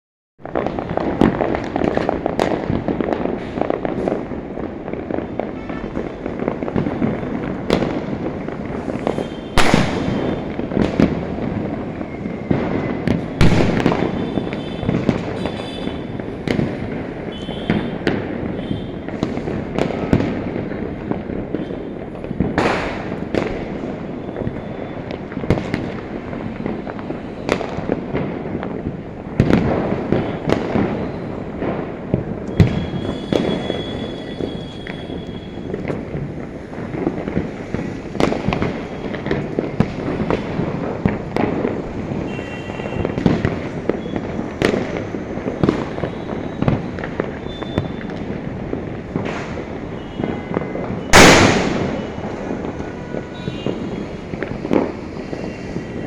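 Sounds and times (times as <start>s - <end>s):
firecrackers crackling: 0.4s - 56.0s
loud firecracker bangs: 0.4s - 56.0s.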